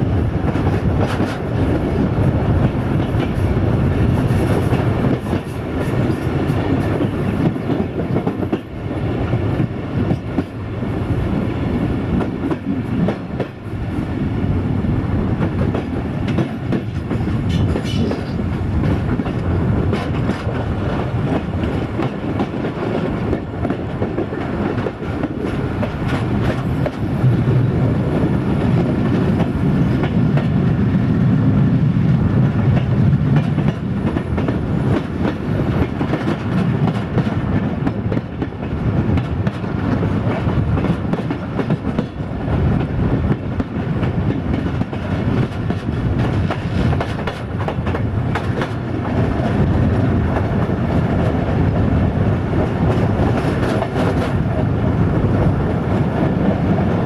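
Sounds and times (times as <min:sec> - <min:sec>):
railcar running rumble: 0:00.0 - 0:57.0.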